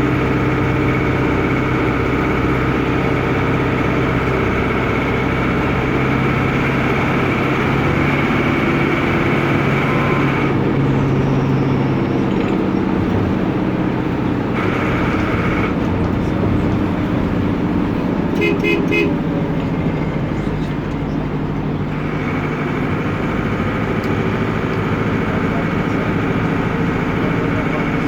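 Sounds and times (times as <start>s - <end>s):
diesel bus engine running: 0.0s - 28.0s.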